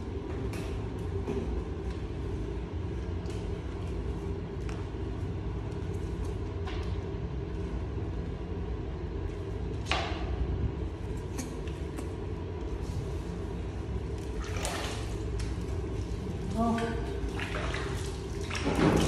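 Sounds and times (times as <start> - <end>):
low background rumble: 0.0 - 18.8.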